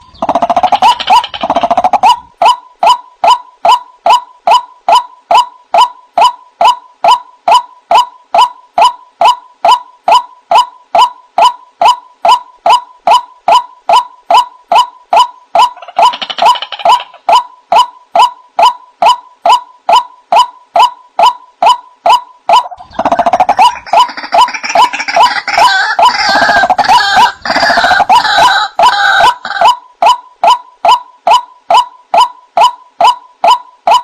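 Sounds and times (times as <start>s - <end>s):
waterhen calling: 0.0s - 34.0s.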